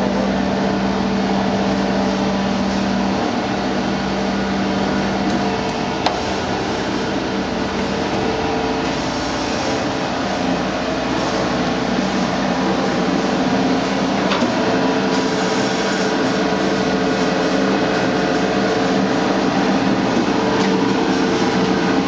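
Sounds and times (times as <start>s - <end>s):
surface grinder running: 0.0s - 22.0s.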